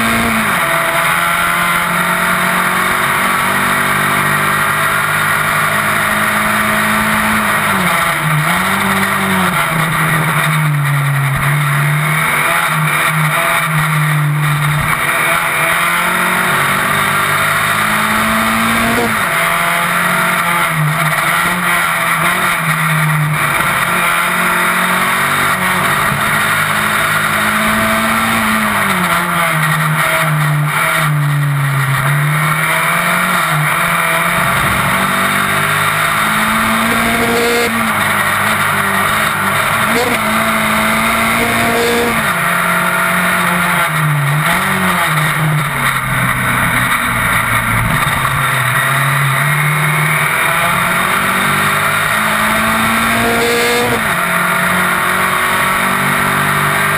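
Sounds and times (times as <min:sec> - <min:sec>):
racing car engine: 0:00.0 - 0:56.9.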